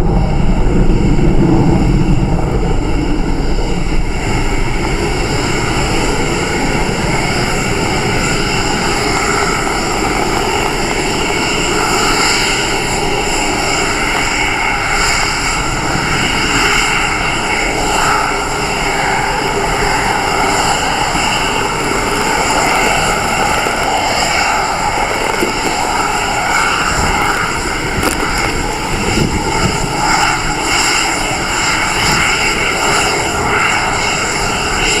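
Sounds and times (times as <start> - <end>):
rocket engines rumbling: 0.0 - 35.0.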